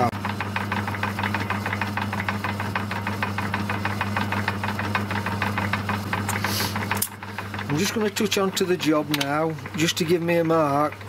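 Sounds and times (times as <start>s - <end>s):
lathe motor hum: 0.0s - 11.0s
rapid ticking from lathe drive: 0.0s - 11.0s.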